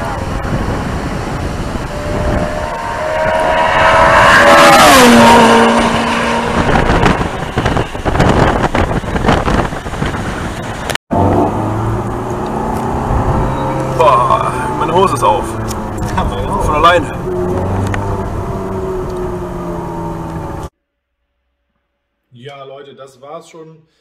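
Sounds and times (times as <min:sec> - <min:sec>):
sports car passing at high revs: 0:00.0 - 0:10.0, 0:11.1 - 0:20.7.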